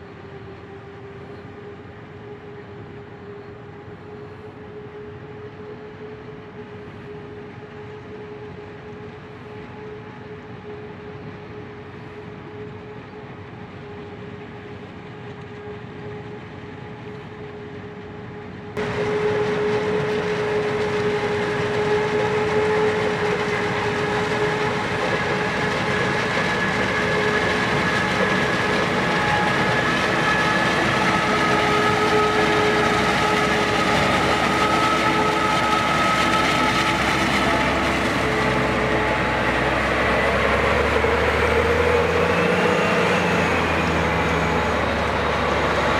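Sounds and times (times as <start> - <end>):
harvest machinery engine droning: 0.0 - 45.9.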